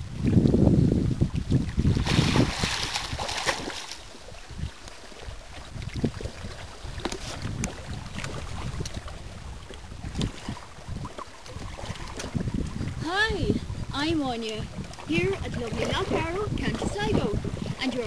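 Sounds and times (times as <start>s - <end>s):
water splashing and lapping: 0.0s - 18.0s
wind buffeting microphone: 0.0s - 18.0s.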